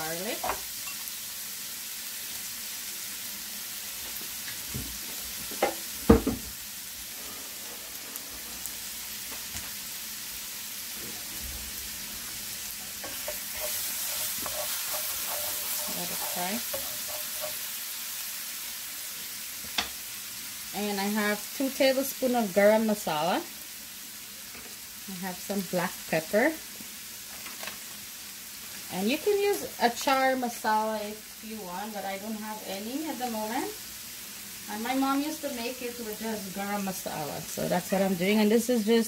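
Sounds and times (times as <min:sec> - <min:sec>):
garlic sizzling in oil: 0:00.0 - 0:39.0.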